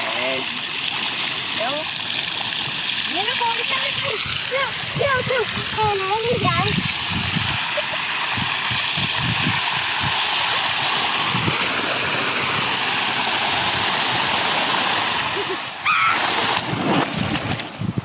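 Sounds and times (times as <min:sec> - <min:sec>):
water rushing and splashing: 0:00.0 - 0:18.0.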